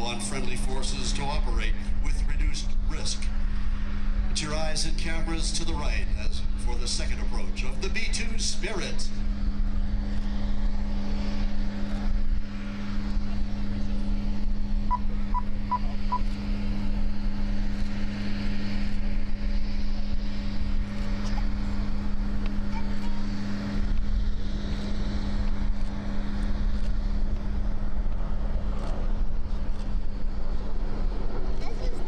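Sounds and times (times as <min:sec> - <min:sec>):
jet engines rumbling: 0:00.0 - 0:32.0
low hum: 0:00.0 - 0:32.0.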